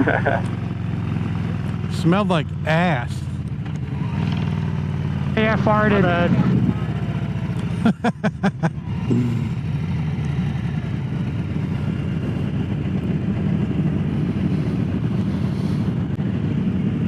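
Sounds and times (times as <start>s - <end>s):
motorcycle engine cruising: 0.0s - 17.0s
road noise: 0.0s - 17.0s.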